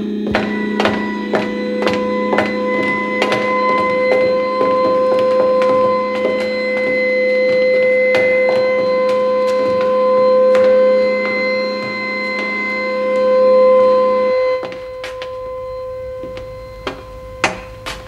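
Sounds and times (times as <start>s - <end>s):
low electronic buzz: 0.0s - 18.0s
steady electronic tone: 0.0s - 18.0s.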